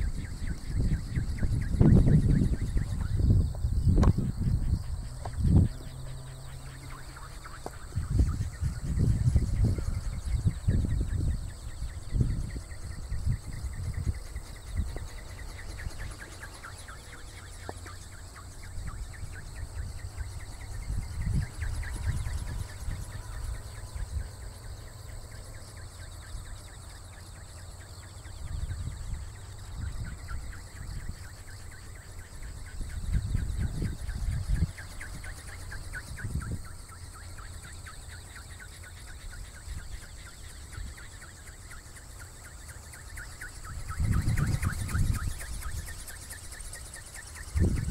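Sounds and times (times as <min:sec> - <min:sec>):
wind buffeting microphone: 0:00.0 - 0:26.6, 0:28.2 - 0:42.6, 0:43.2 - 0:47.9
faint high chirping: 0:00.0 - 0:47.9.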